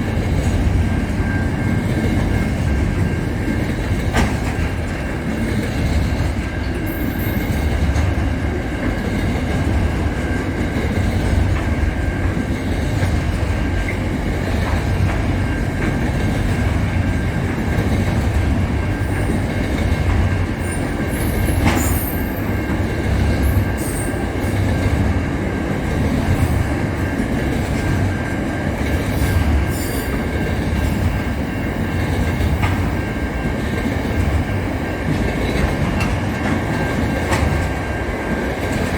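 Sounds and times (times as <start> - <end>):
rail clicks: 0.0 - 38.9
train rumbling on rails: 0.0 - 38.9.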